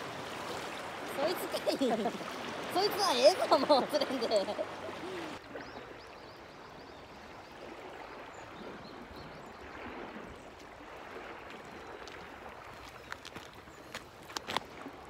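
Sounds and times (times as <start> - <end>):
small waves lapping on rocks: 0.0 - 5.8, 8.2 - 15.0.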